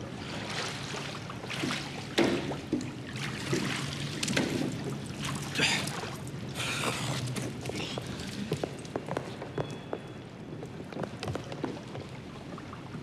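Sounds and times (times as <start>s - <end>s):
water splashing in a hot tub: 0.0s - 9.5s, 10.2s - 13.0s.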